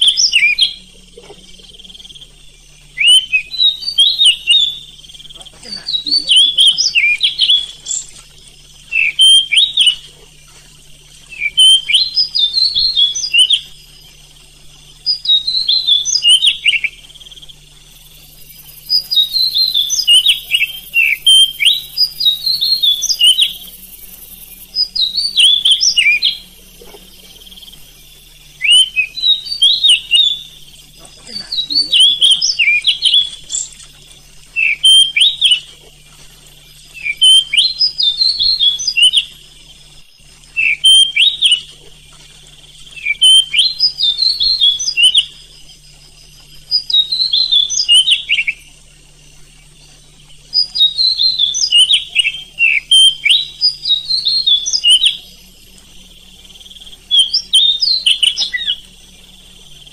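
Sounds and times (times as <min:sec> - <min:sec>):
bird singing whistled notes: 0:00.0 - 0:00.9, 0:01.5 - 0:08.2, 0:08.8 - 0:10.1, 0:11.3 - 0:17.1, 0:17.9 - 0:35.7, 0:36.4 - 0:41.8, 0:42.9 - 0:48.8, 0:49.7 - 0:55.6, 0:56.3 - 0:59.9.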